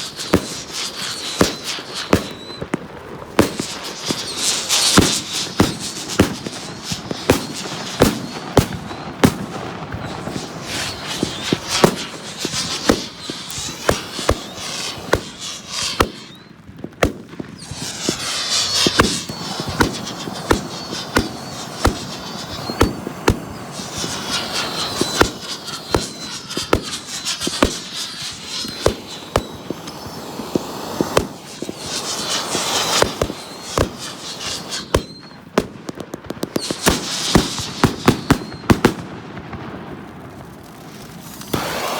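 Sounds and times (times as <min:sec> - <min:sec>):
firework shells bursting: 0:00.0 - 0:41.9
fireworks hissing and whistling: 0:00.0 - 0:41.9.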